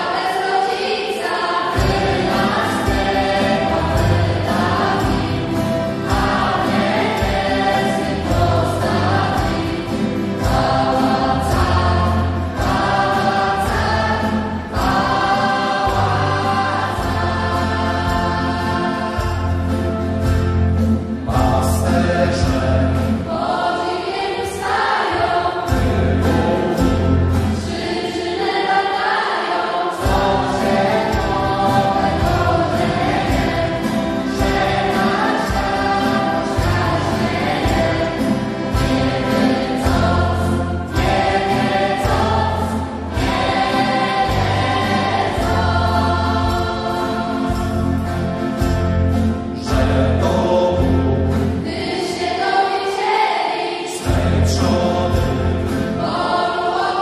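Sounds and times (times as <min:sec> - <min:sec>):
guitars: 0:00.0 - 0:52.9, 0:53.8 - 0:57.0
choir singing: 0:00.0 - 0:57.0
steady drum beat: 0:01.7 - 0:23.6, 0:24.6 - 0:28.0, 0:30.0 - 0:51.9, 0:54.1 - 0:56.4
bass: 0:01.8 - 0:23.3, 0:25.7 - 0:27.7, 0:30.1 - 0:51.8, 0:54.1 - 0:56.2.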